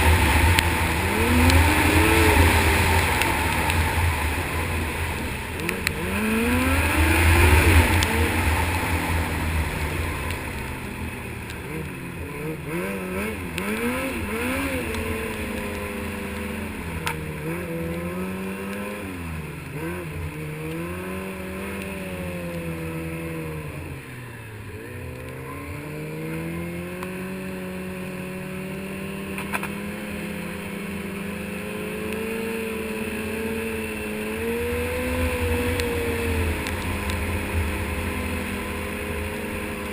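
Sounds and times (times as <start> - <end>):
constant rushing noise: 0.0 - 39.9
snowmobile engine revving: 0.0 - 39.9.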